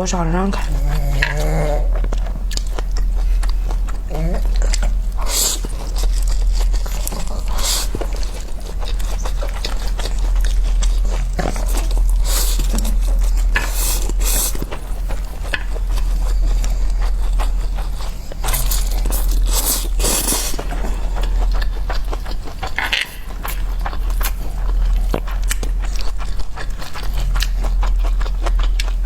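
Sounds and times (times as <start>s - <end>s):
crunchy chewing: 0.4s - 29.0s.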